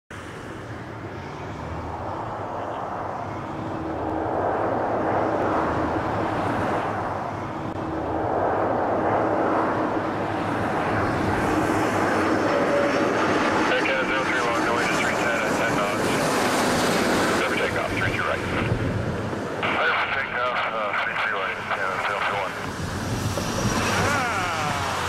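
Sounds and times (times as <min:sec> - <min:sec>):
jet airliner engine roar: 0:00.1 - 0:25.0.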